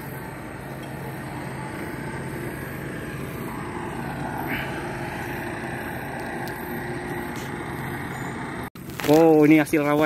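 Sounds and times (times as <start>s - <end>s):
boat engine droning: 0.0s - 8.7s.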